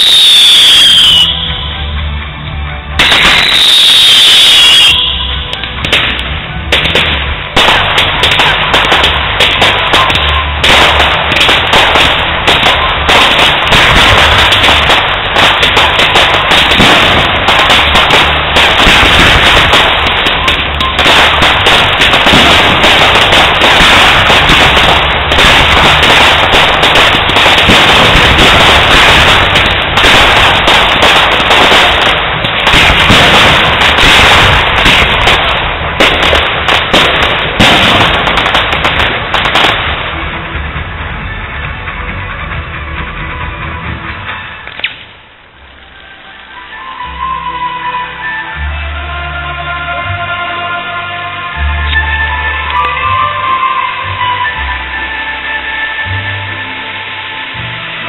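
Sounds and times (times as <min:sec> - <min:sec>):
fireworks bangs and crackles: 0:00.0 - 0:49.0, 0:49.8 - 0:58.0.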